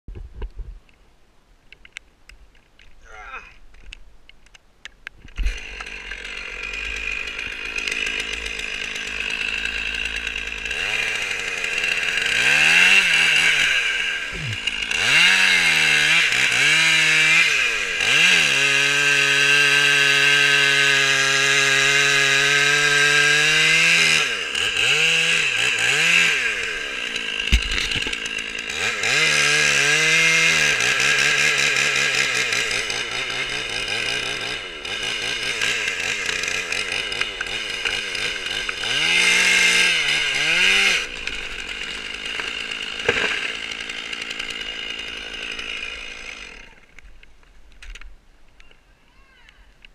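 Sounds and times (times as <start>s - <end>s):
chainsaw cutting tree trunk: 5.3s - 47.2s.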